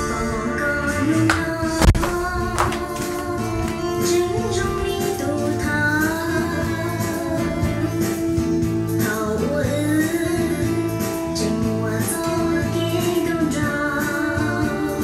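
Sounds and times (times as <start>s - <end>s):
song with singing voice: 0.0s - 15.0s.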